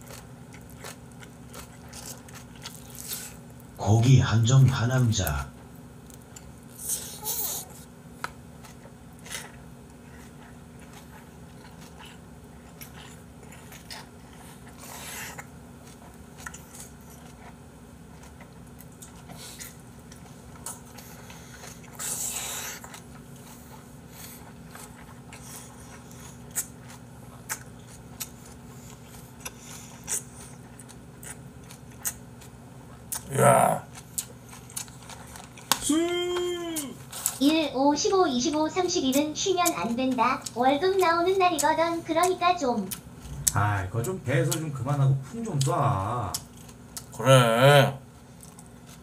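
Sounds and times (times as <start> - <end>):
chewing food: 0.0 - 3.8, 5.6 - 47.3, 48.2 - 49.0.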